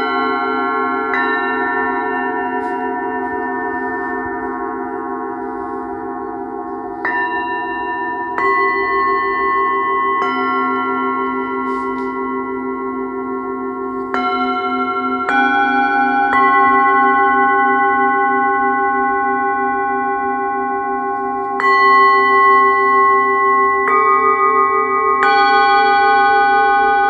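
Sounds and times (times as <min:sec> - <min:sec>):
singing bowls struck with mallet: 0:00.0 - 0:27.0.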